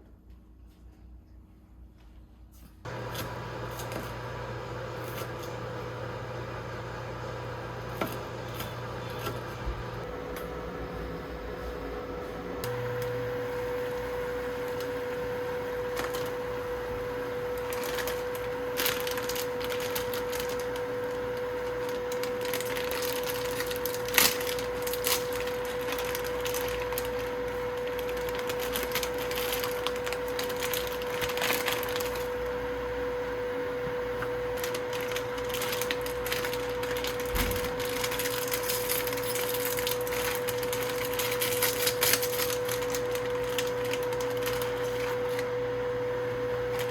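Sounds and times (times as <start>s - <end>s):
high-pitched hum: 2.9s - 46.9s.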